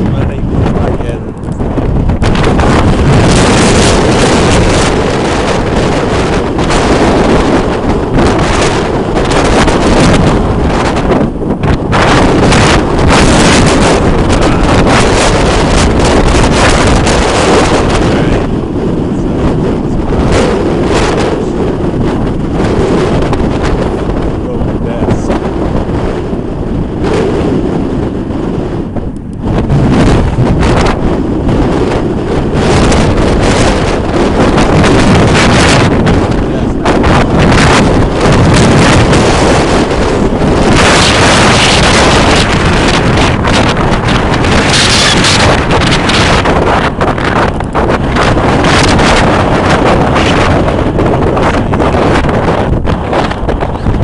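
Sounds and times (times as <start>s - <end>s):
strong gusty wind on microphone: 0.0s - 54.0s.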